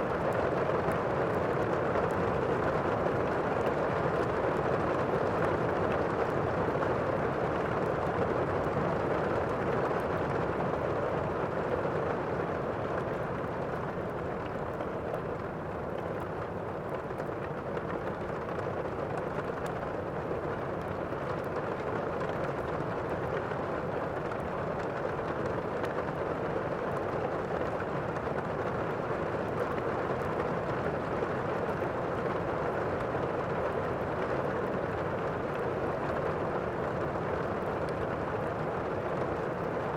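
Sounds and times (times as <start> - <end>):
faint fire crackling: 0.0 - 39.9.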